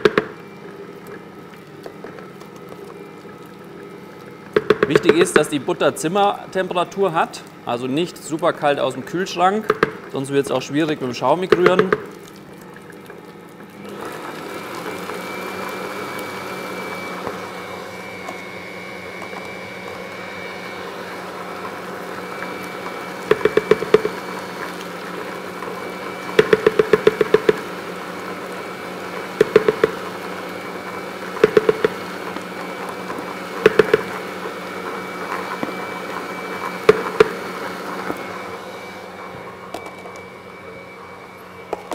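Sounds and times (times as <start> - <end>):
stand mixer humming: 0.0 - 41.9.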